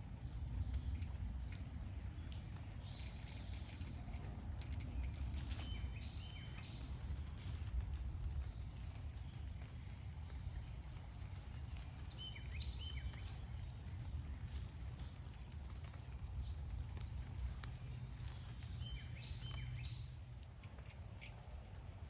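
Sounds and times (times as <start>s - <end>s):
low outdoor rumble: 0.0s - 22.0s
faint clicks: 0.5s - 21.8s.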